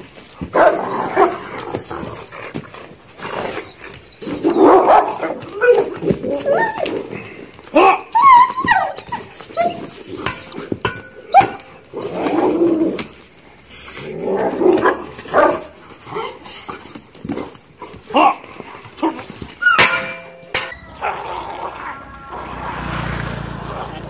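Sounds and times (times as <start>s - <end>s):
dogs yelping and barking: 0.2s - 23.0s
dogs growling and snarling: 0.4s - 19.6s, 20.9s - 24.0s.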